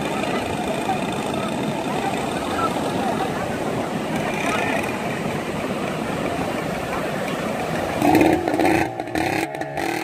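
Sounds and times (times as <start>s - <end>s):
outboard motor running: 0.0s - 10.0s
waves breaking: 0.0s - 10.0s.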